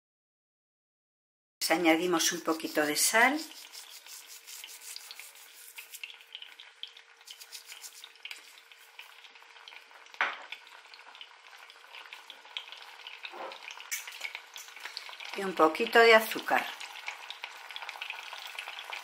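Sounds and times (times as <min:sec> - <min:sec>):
peppers sizzling in oil: 0:01.6 - 0:19.0.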